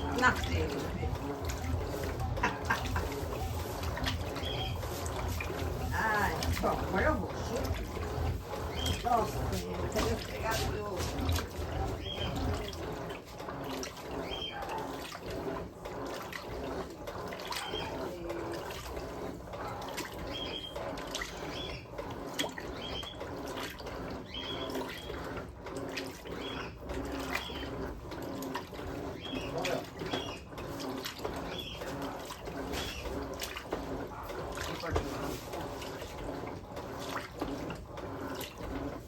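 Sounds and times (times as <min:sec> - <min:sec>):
water sloshing in washing machine: 0:00.0 - 0:39.0.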